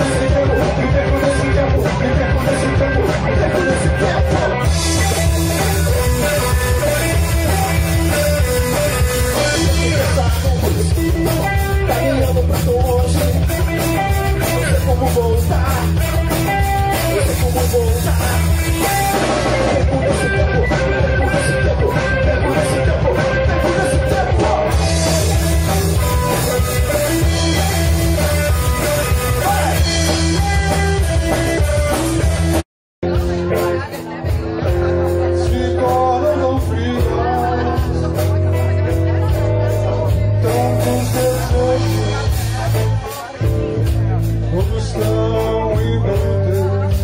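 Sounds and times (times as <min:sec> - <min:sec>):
bass guitar: 0:00.0 - 0:47.0
drum kit: 0:00.0 - 0:47.0
electric guitar: 0:00.0 - 0:47.0.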